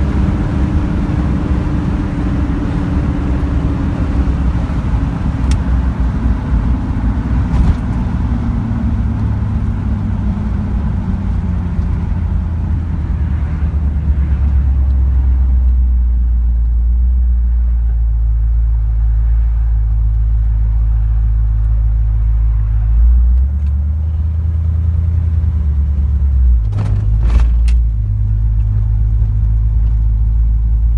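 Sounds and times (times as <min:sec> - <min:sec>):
car engine rumbling: 0:00.0 - 0:30.9.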